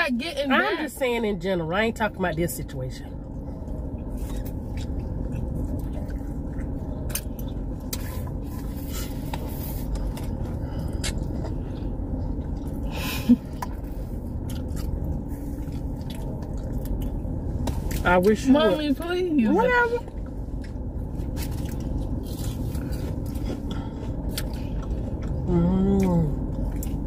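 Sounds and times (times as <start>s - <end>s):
low hum in car cabin: 0.0s - 27.0s
chewing crispy food: 3.2s - 18.0s, 20.0s - 27.0s.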